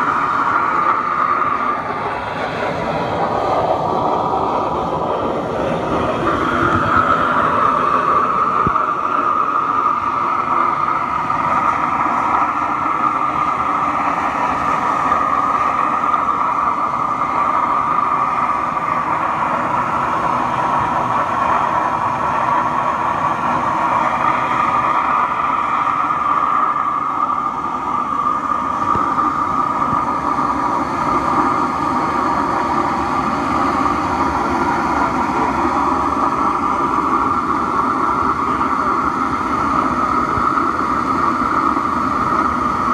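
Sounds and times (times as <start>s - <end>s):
constant high hum: 0.0s - 42.9s
furnace burner roaring: 0.0s - 42.9s.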